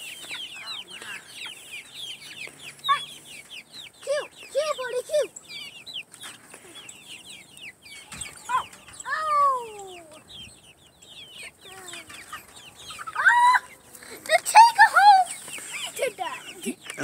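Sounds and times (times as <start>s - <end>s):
young chickens peeping: 0.0s - 17.0s.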